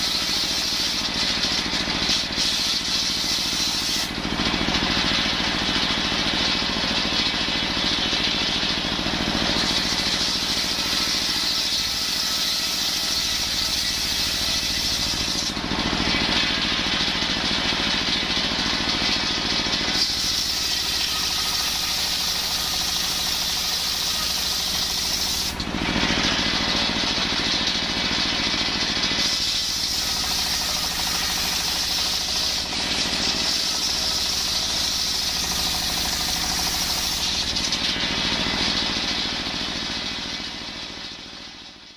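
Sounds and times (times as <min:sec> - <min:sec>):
circular saw cutting wood: 0:00.0 - 0:40.0
diesel engine running: 0:00.0 - 0:41.9.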